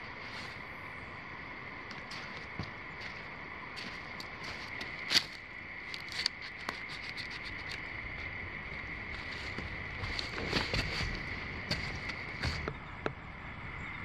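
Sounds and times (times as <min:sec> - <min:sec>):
night insects trilling: 0:00.0 - 0:14.0.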